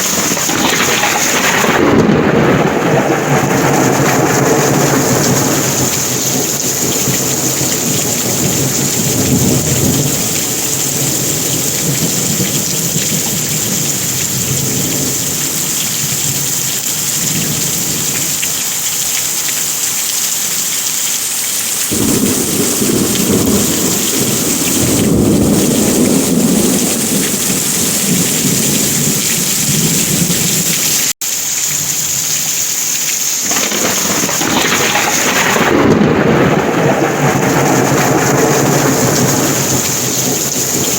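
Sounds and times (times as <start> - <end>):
low thunder rumble: 0.0 - 18.4, 21.9 - 31.0, 33.5 - 40.9
heavy rain pouring: 0.0 - 40.9.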